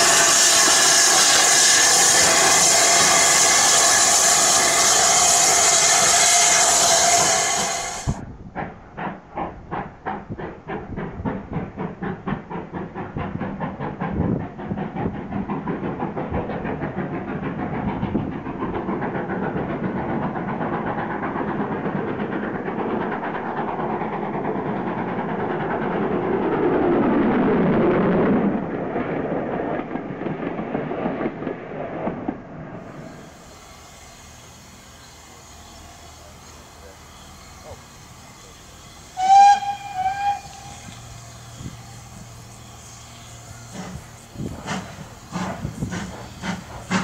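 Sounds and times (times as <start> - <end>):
steam locomotive exhaust beat: 0.0 - 31.9, 32.8 - 47.0
rattle of wheels and coaches: 0.0 - 47.0.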